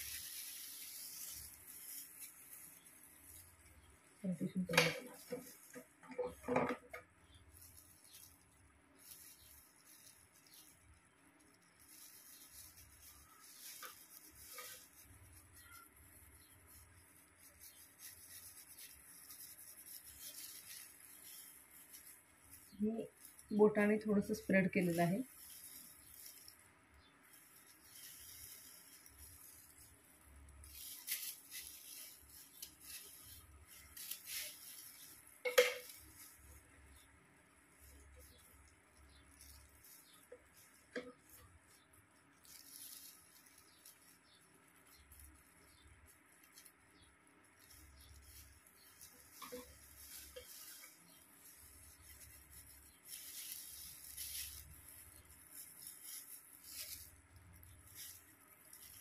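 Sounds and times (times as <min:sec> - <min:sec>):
plastic gloves rustling on wet hair: 0:00.0 - 0:59.0.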